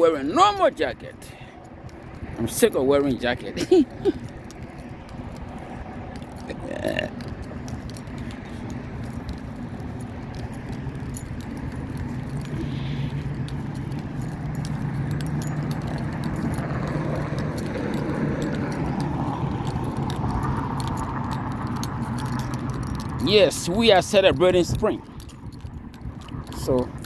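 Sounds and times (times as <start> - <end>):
low traffic hum: 0.0 - 27.0
light clicks and rattles: 0.2 - 27.0.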